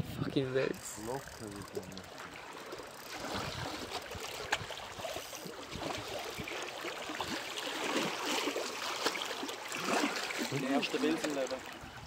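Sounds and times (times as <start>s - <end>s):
water splashing in shallows: 1.4s - 12.0s.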